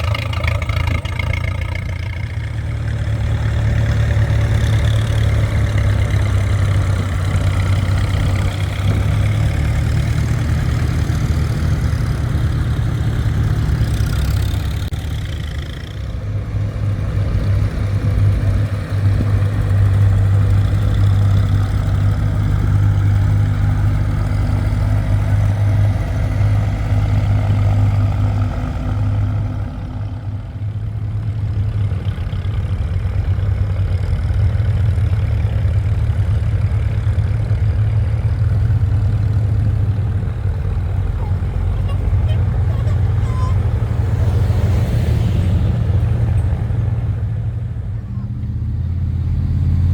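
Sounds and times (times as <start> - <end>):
vehicle engine droning: 0.0 - 49.9.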